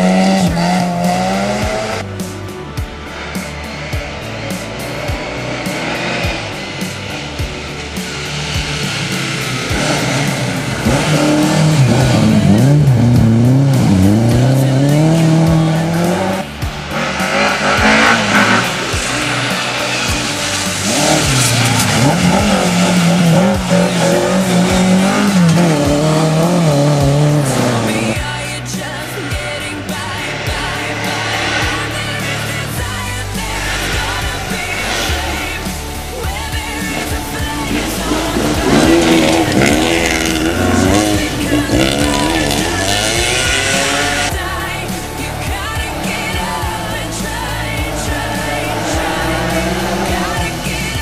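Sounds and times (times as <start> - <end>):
music: 0.0 - 51.0
rally car engine revving: 0.0 - 51.0.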